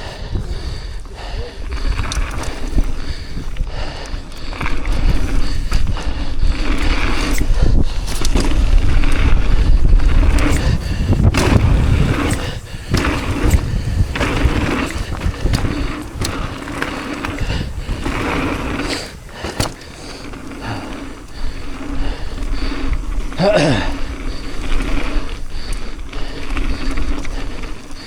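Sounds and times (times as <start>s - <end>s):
wind rumble on microphone: 0.0s - 28.0s
tyres rolling over dirt: 0.3s - 28.0s
bike knocks and rattles: 0.4s - 28.0s.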